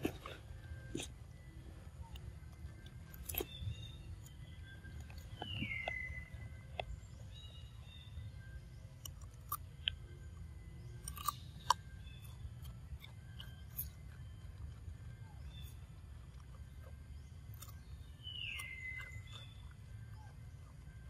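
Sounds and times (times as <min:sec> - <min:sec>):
monkey crunching cucumber: 0:00.0 - 0:21.0.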